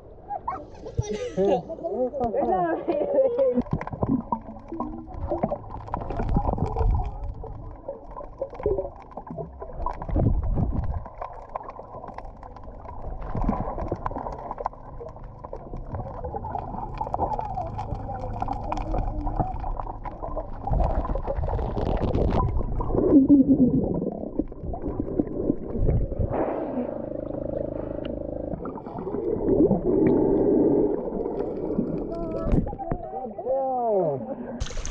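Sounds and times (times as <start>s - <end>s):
water swirling and bubbling underwater: 0.0s - 34.9s.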